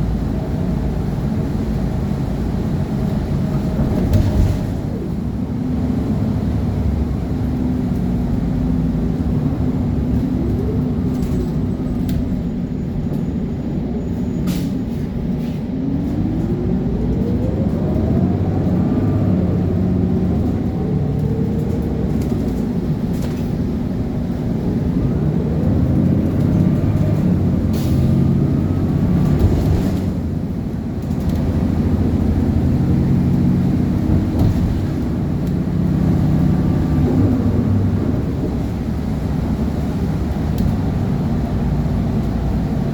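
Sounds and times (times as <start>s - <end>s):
diesel bus engine accelerating: 0.0s - 42.9s.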